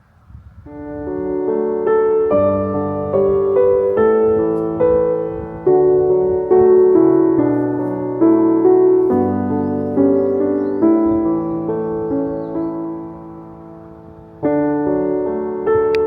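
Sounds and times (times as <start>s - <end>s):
gentle piano music: 0.6s - 16.0s.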